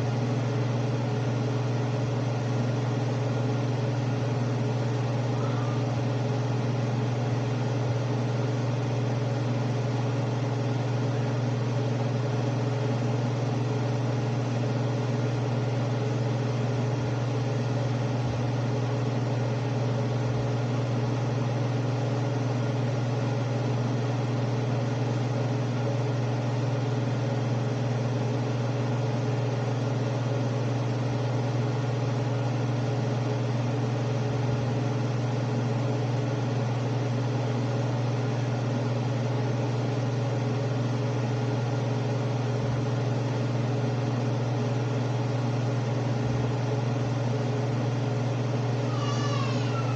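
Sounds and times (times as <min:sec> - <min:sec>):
range hood fan humming: 0:00.0 - 0:49.9.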